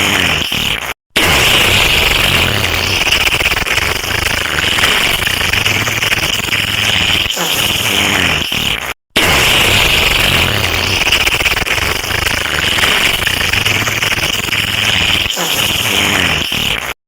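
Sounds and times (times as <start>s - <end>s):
harsh rasping sound effect: 0.0s - 17.0s.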